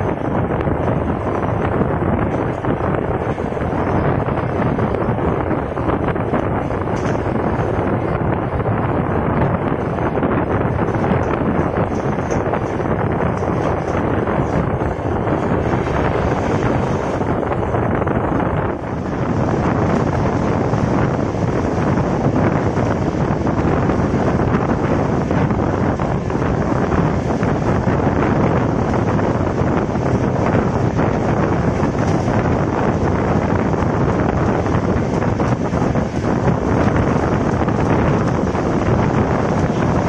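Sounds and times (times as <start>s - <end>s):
train running on rails: 0.0s - 40.0s
wind buffeting microphone: 0.0s - 40.0s.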